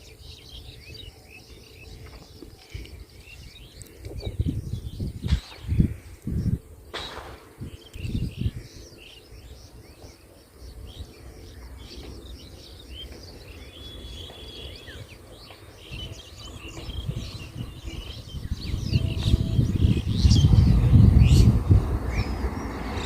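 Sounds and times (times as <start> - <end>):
low rumbling noise: 0.0 - 23.0
small birds chirping: 0.0 - 23.0.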